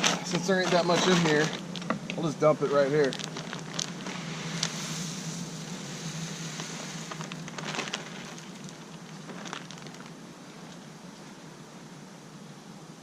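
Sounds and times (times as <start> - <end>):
seeds pouring onto ground: 0.0 - 10.7
steady low hum: 0.0 - 13.0.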